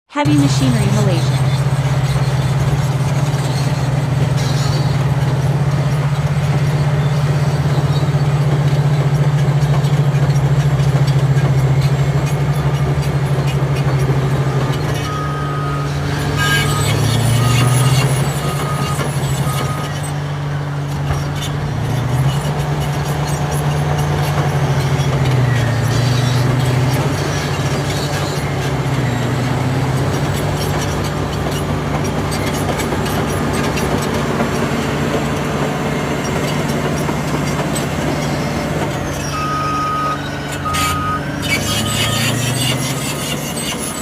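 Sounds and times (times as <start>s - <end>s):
bulldozer diesel engine running: 0.1s - 44.0s.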